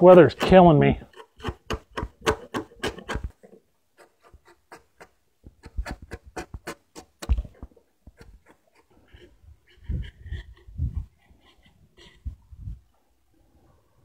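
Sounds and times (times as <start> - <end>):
chisel scraping wood: 0.0 - 12.3.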